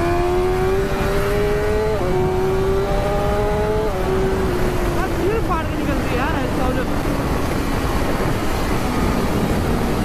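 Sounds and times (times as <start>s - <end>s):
motorcycle engine accelerating: 0.0s - 10.0s
wind rush: 0.0s - 10.0s.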